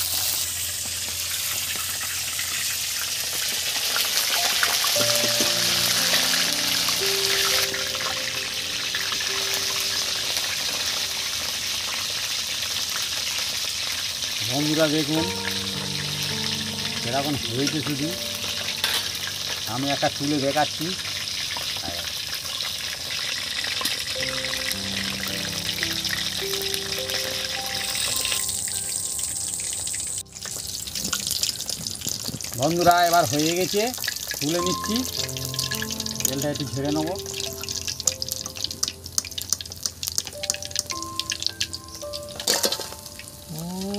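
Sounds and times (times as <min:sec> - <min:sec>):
soft background melody: 0:00.0 - 0:12.4, 0:14.4 - 0:43.9
fish deep-frying in hot oil: 0:00.0 - 0:43.9.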